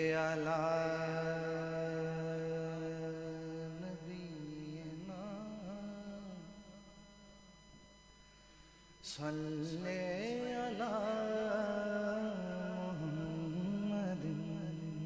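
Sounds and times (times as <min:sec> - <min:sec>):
man singing a held note: 0:00.0 - 0:07.1, 0:09.0 - 0:15.0.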